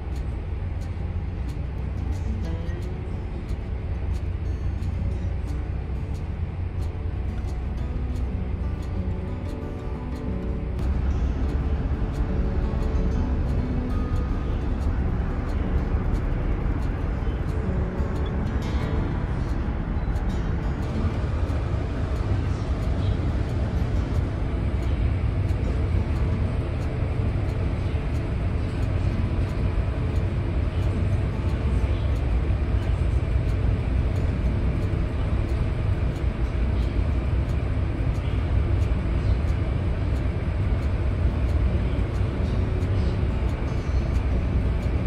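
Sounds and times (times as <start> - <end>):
ferry engine low rumble: 0.0 - 45.0.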